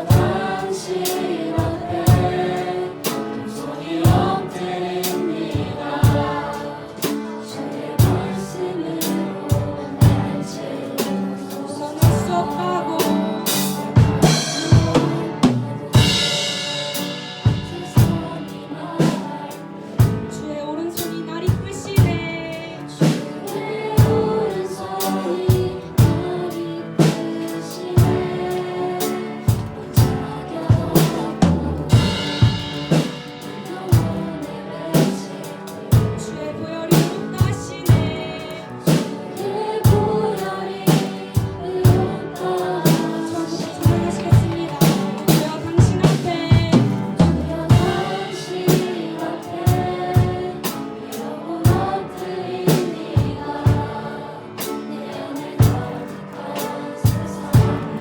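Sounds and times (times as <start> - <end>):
drum kit: 0.0 - 20.4, 21.0 - 58.0
people singing: 0.0 - 58.0
piano: 0.0 - 58.0.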